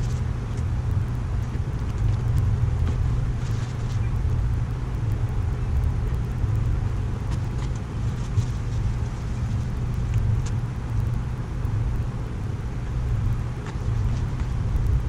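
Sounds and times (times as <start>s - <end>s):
propane burner roaring: 0.0s - 15.0s.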